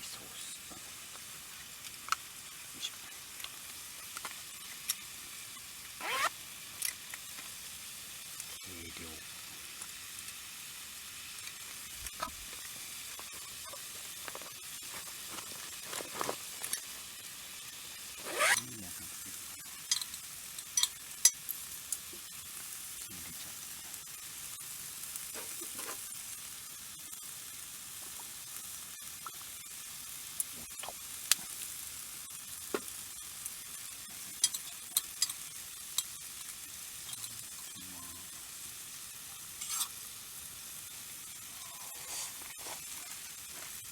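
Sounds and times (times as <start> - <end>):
food sizzling in a grill pan: 0.0 - 43.9.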